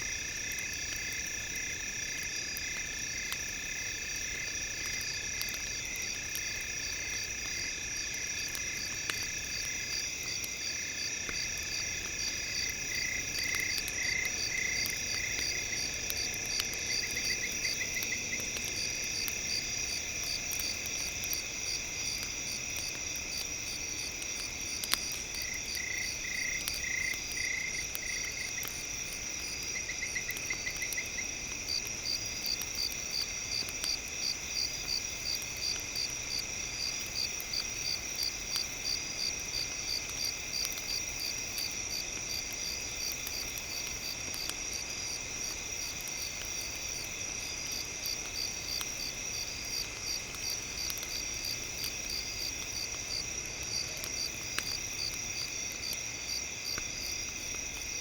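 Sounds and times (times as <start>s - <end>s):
campfire crackling: 0.0s - 58.0s
crickets trilling: 0.0s - 58.0s
regular insect chirp: 0.1s - 58.0s.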